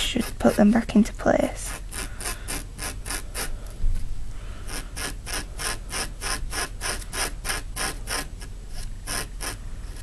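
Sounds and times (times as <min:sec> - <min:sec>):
finger scratching fabric: 0:00.0 - 0:00.8, 0:01.6 - 0:10.0.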